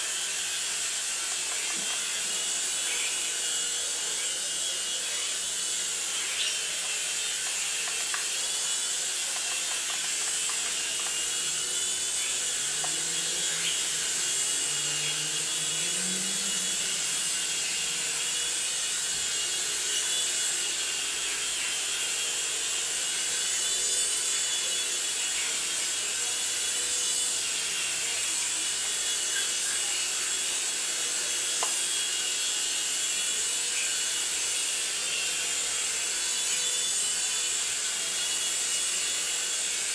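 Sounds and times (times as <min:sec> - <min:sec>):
toy helicopter rotors whirring: 0:00.0 - 0:39.9.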